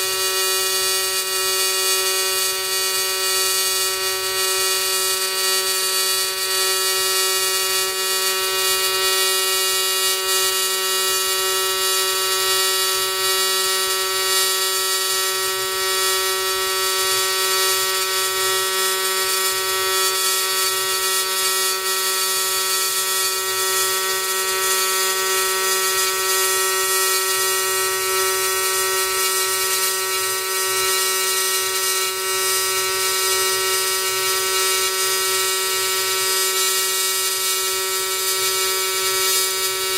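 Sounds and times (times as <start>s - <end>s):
welding arc buzzing: 0.0s - 39.9s.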